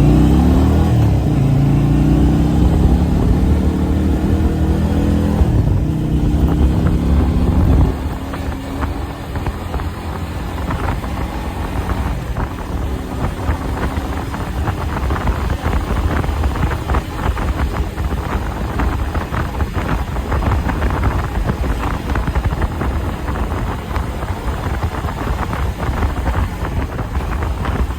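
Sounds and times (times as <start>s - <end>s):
motorcycle engine running: 0.0s - 27.9s
wind buffeting microphone: 0.0s - 27.9s.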